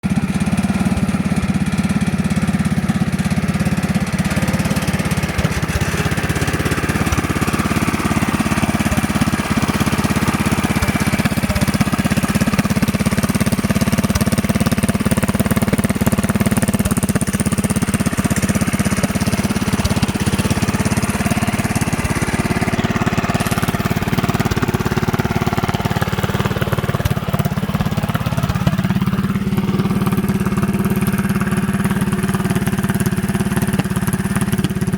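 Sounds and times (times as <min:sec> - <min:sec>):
go-kart engine running: 0:00.0 - 0:34.9.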